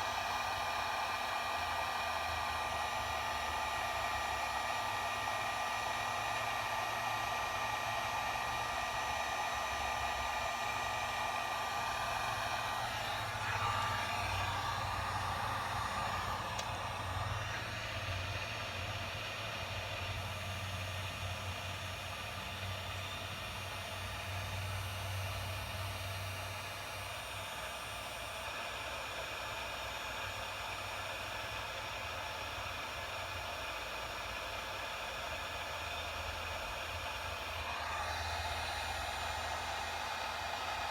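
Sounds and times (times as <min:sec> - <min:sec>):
heat gun blowing: 0:00.0 - 0:29.0, 0:33.9 - 0:40.9.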